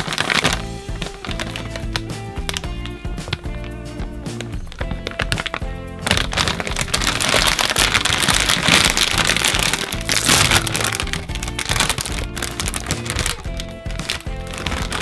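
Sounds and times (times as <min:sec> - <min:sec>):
plastic snack bag crinkling: 0:00.0 - 0:03.7, 0:04.4 - 0:15.0
background music: 0:00.0 - 0:15.0.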